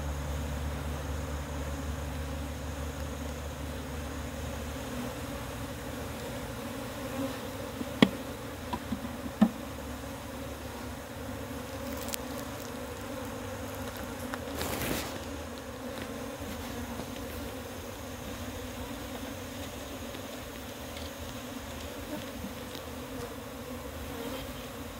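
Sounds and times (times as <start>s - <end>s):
honeybees buzzing: 0.0s - 24.9s.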